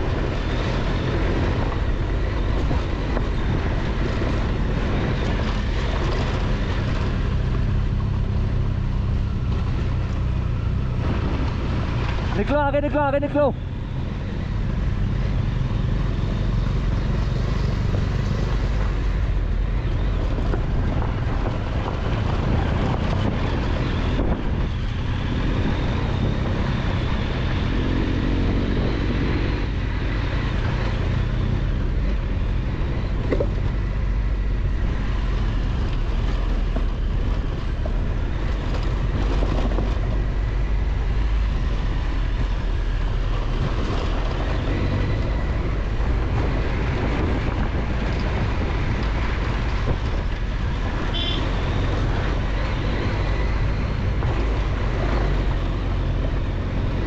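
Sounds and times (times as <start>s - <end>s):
air rush and tyre noise: 0.0s - 57.0s
motorcycle engine running: 0.0s - 57.0s.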